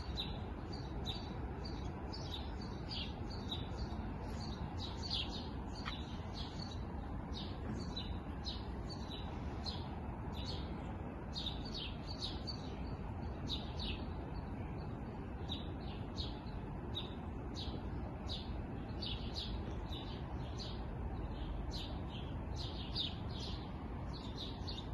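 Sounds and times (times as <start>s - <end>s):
low rush of background noise: 0.0s - 24.9s
small songbirds chirping: 0.0s - 24.9s.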